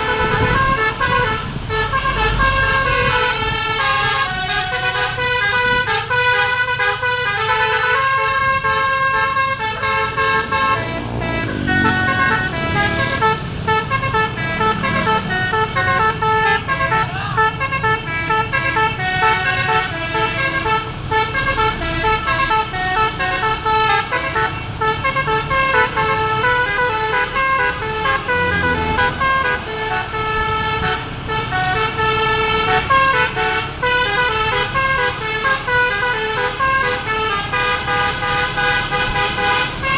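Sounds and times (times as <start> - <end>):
bus horn playing fast tune: 0.0 - 39.9.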